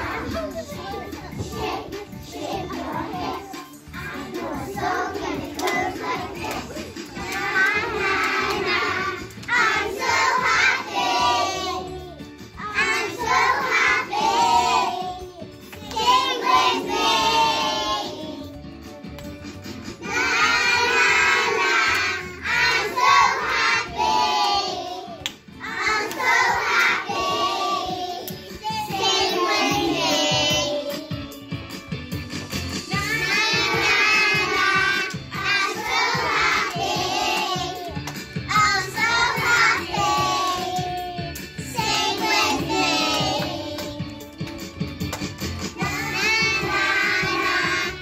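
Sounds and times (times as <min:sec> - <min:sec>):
children singing: 0:00.0 - 0:12.0, 0:12.6 - 0:18.5, 0:20.0 - 0:31.1, 0:33.0 - 0:44.1, 0:45.8 - 0:48.0
recorded music: 0:00.0 - 0:48.0.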